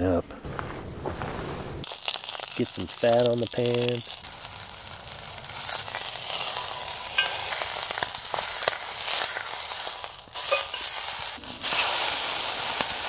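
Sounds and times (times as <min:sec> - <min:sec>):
steak sizzling in pan: 0:01.8 - 0:13.0.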